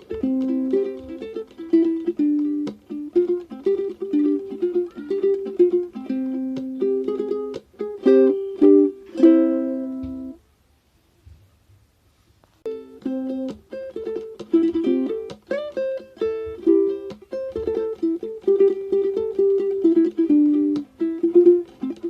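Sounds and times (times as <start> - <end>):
plucked-string melody: 0.0 - 10.4, 12.6 - 22.0.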